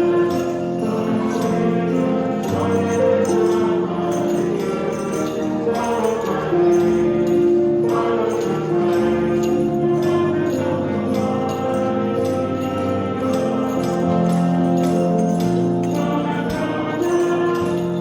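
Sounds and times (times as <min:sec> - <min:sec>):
hymn with held chords: 0:00.0 - 0:18.0
jingle bells shaking: 0:00.0 - 0:18.0
tambourines shaking: 0:00.0 - 0:18.0.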